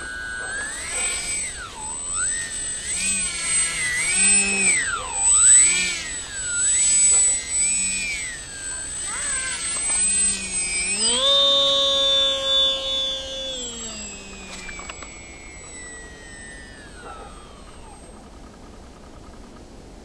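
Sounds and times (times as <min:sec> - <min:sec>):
electric motor and propeller whining: 0:00.0 - 0:20.0.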